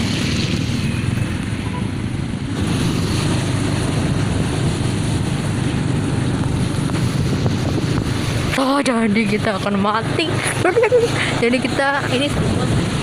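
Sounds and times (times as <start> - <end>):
wind and motorcycle road noise: 0.0 - 13.0.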